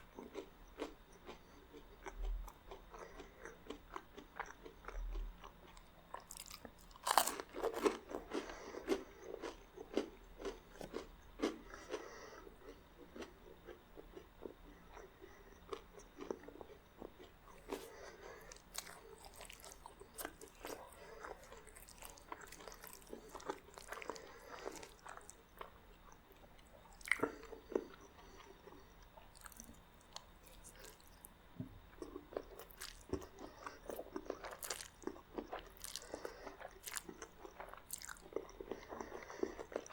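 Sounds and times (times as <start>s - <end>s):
person chewing crunchy bread: 0.0s - 39.9s.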